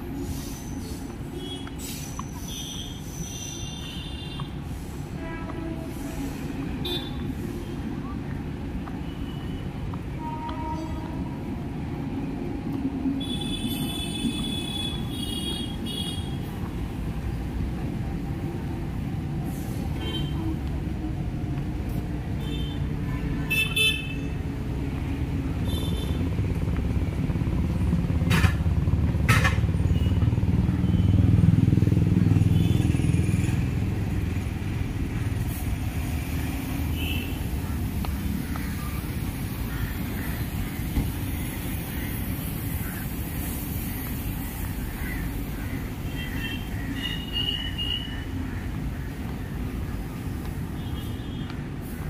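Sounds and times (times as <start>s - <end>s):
traffic engines running: 0.0s - 52.0s.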